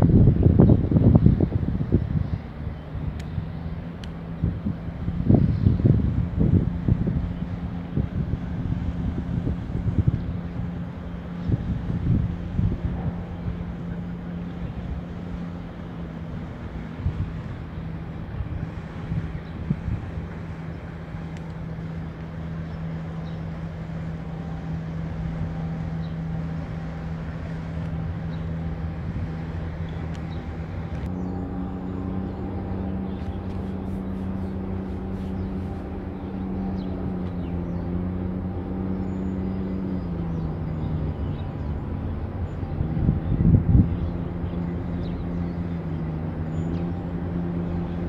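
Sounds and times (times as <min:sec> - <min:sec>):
low engine drone: 0:00.0 - 0:48.0
wind rumble on microphone: 0:00.0 - 0:48.0.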